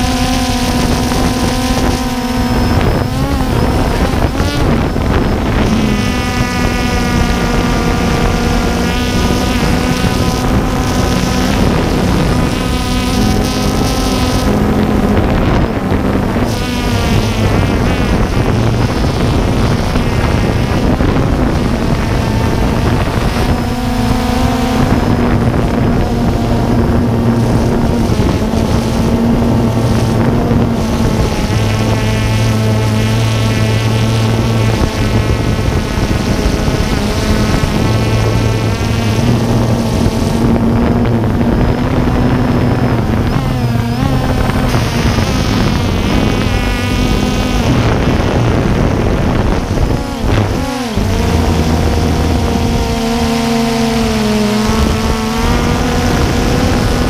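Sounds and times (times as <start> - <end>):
drone propellers whining: 0.0 - 57.0
wind noise: 0.0 - 57.0.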